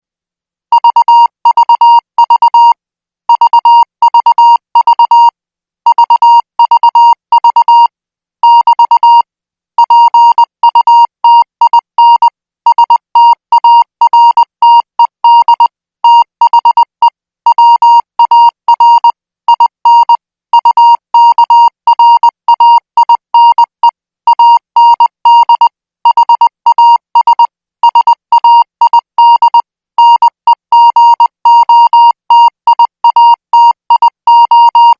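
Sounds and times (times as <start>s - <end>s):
morse code beeps: 0.8s - 5.3s, 5.9s - 9.2s, 9.8s - 16.9s, 17.5s - 34.9s.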